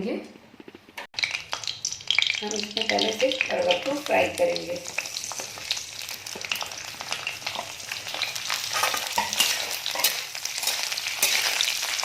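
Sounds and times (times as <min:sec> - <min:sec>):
vegetables sizzling in hot oil: 0:01.2 - 0:12.0.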